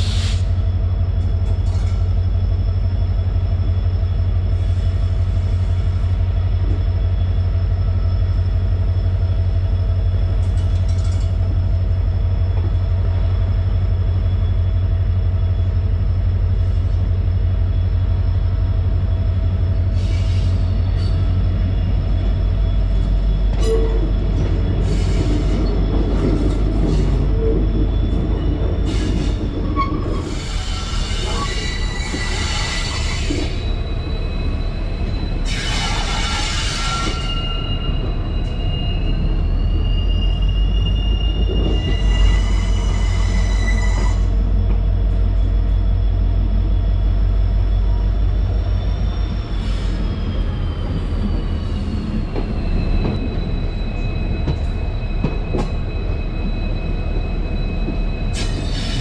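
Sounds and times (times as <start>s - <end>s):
train rumbling on track: 0.0s - 59.0s
train squeaks and clanks: 0.0s - 59.0s.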